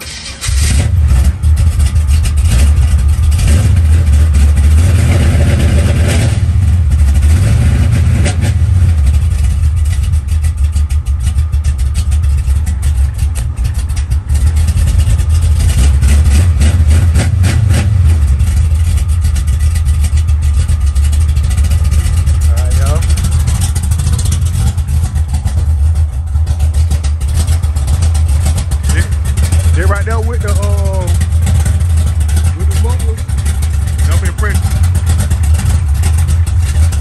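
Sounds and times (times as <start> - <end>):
loud car engine revving: 0.0 - 37.0.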